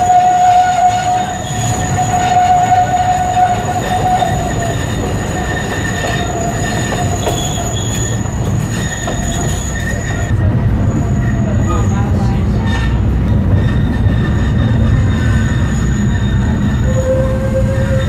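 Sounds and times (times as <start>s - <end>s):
train carriages rolling on track: 0.0s - 18.0s
wheels squealing on curve: 0.0s - 18.0s.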